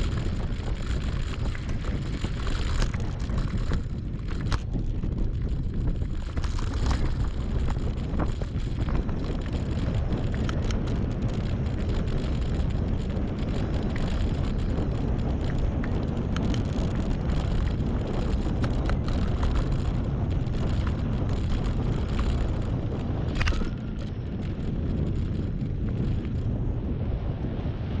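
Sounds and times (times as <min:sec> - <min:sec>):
bicycle clicks and rattles: 0:00.0 - 0:26.7
wind buffeting microphone: 0:00.0 - 0:28.0.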